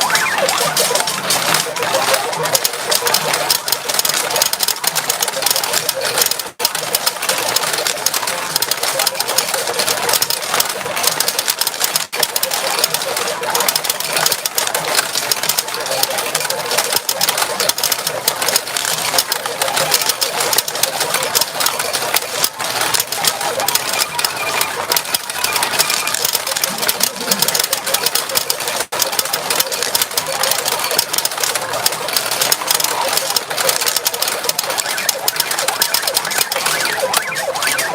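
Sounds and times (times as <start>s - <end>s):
pachinko balls rattling: 0.0s - 37.9s.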